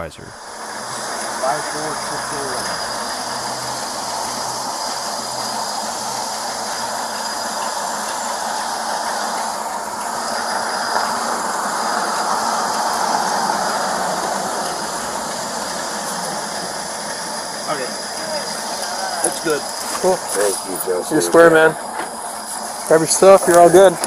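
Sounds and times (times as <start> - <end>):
street noise hiss: 0.0 - 24.0
car driving past: 0.4 - 22.3.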